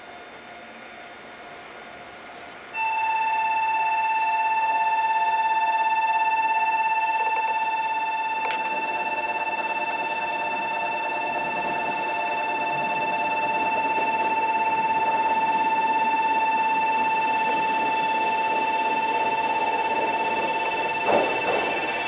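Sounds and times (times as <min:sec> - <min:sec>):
level crossing warning bell: 0:02.8 - 0:22.0.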